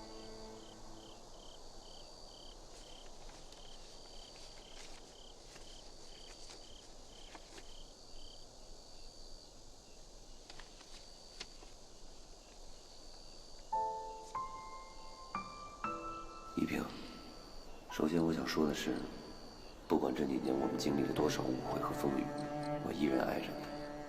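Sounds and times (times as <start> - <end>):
crickets chirping: 0.0 - 24.0
high insect trills: 0.0 - 24.0.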